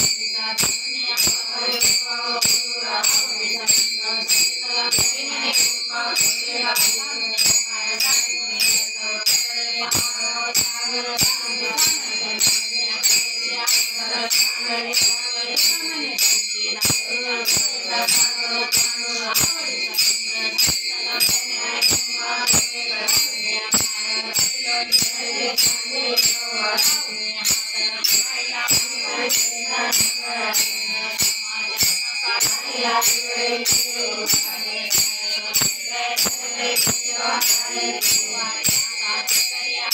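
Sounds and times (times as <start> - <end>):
devotional singing: 0.0 - 39.9
jingling metal percussion: 0.0 - 39.9.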